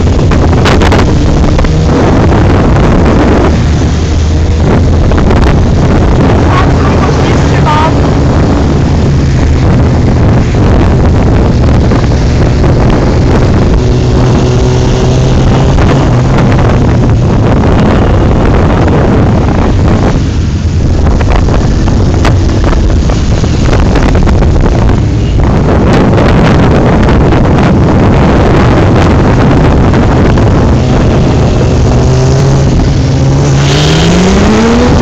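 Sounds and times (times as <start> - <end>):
motorcycle engines running: 0.0 - 35.0
wind buffeting microphone: 0.0 - 35.0.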